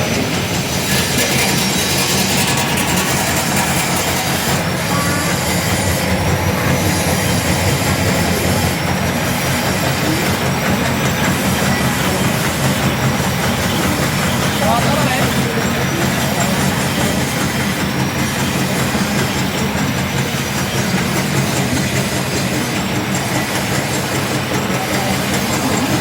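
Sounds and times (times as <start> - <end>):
machine running loudly: 0.0 - 26.0.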